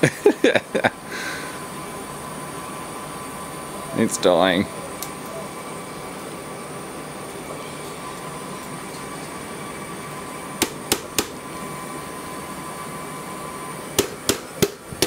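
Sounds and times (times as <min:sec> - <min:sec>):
cooling fans whirring: 0:00.0 - 0:15.0
fan bearings chattering: 0:00.0 - 0:15.0.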